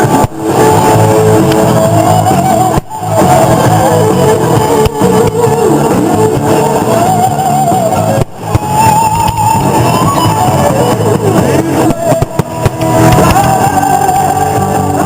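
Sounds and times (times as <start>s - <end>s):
loud rock music with guitar: 0.0s - 15.0s.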